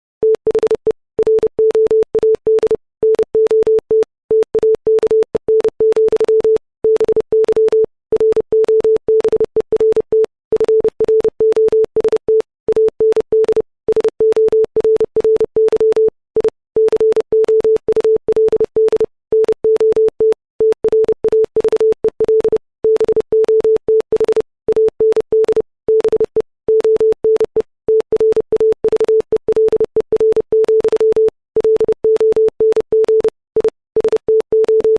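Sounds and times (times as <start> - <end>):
morse code tone beeps: 0.2 - 34.9.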